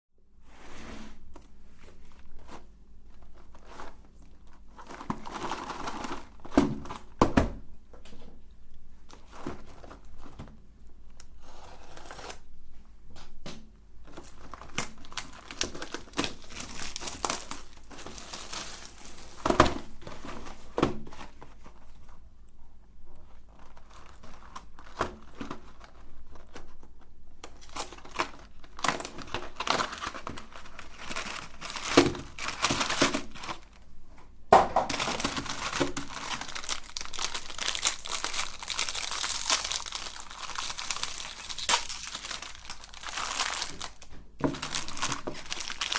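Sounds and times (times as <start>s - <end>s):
plastic wrapper crinkling and tearing: 1.4s - 7.2s, 8.7s - 12.5s, 14.0s - 34.0s, 34.8s - 45.9s.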